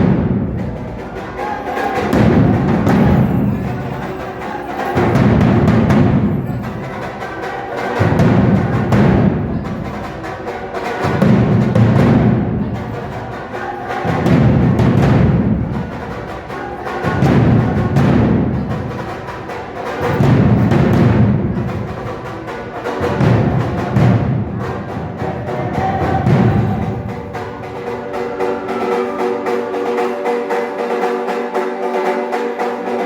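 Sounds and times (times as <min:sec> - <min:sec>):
deep drums beating: 0:00.0 - 0:30.6
quick sharp drum strikes: 0:00.0 - 0:33.0.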